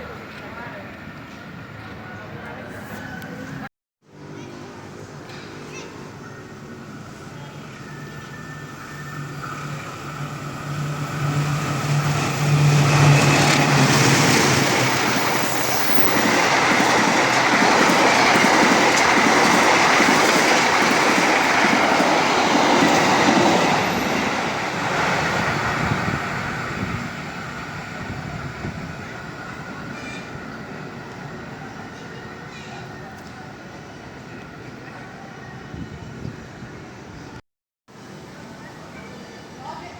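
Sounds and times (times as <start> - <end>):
train passing on rails: 0.0 - 39.9.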